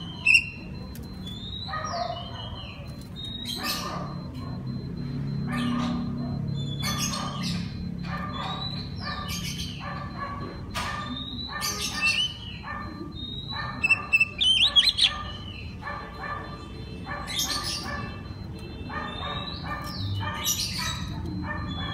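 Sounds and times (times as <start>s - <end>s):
bird singing rasping notes: 0.0s - 21.9s.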